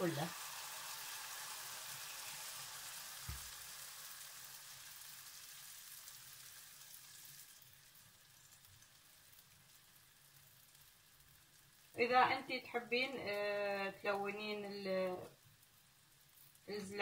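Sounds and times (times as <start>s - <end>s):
batter sizzling in oil: 0.0s - 17.0s.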